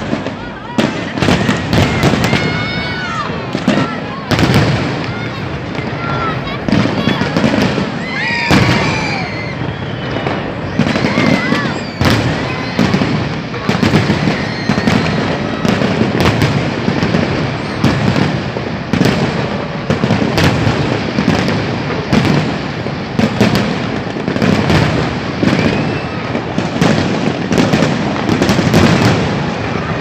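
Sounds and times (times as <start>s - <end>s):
booming explosions rumble: 0.0s - 30.0s
firework bangs: 0.0s - 30.0s.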